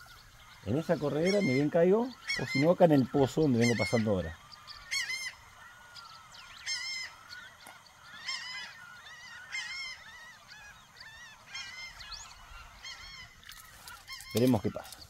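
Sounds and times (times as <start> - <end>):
faint bird calls: 0.0 - 15.0
wetland birds honking: 0.0 - 15.0.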